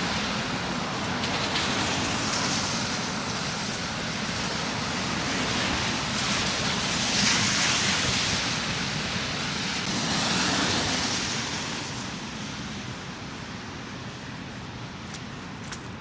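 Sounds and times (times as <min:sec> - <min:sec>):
tyres hissing on slushy road: 0:00.0 - 0:16.0.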